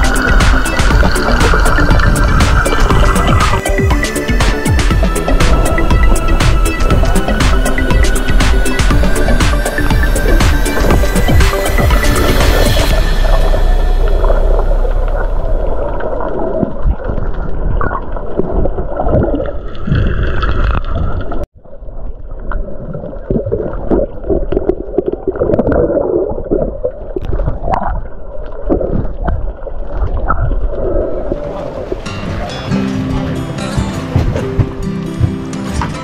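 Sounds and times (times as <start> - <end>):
muffled underwater gurgling: 0.0 - 34.7.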